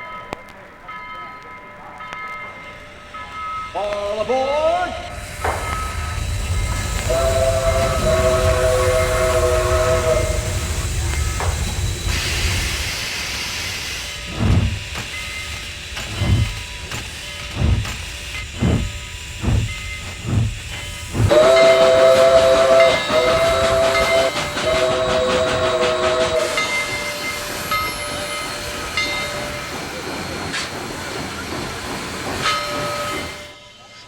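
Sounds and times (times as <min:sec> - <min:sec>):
locomotive exhaust chuffs: 0:02.8 - 0:33.8
steam hissing: 0:02.8 - 0:34.0.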